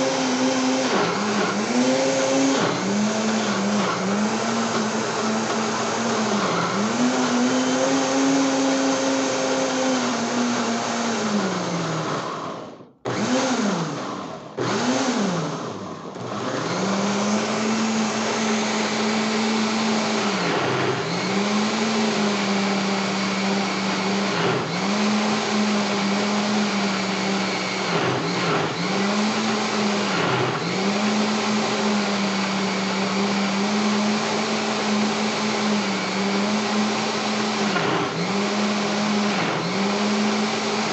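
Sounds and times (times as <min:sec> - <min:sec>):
blender motor running: 0:00.0 - 0:40.9.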